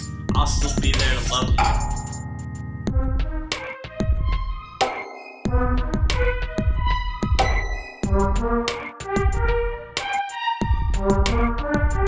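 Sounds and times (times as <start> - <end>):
instrumental music with heavy bass: 0.0 - 12.0.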